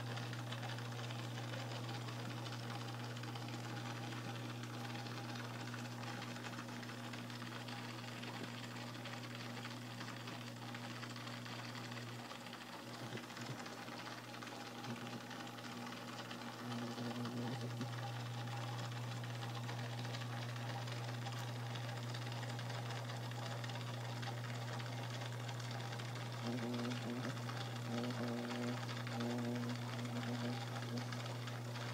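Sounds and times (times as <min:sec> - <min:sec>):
aquarium equipment hum: 0:00.0 - 0:31.9.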